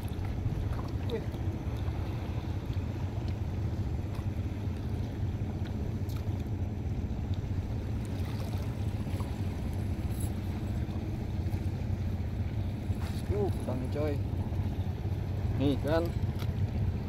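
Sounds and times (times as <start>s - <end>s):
low rumble on water: 0.0s - 17.0s.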